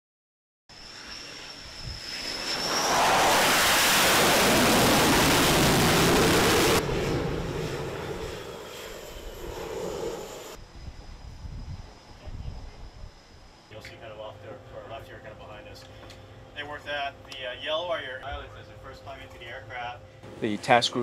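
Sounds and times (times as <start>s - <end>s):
faint high whine: 0.7s - 21.0s
jet engine roar: 0.7s - 21.0s.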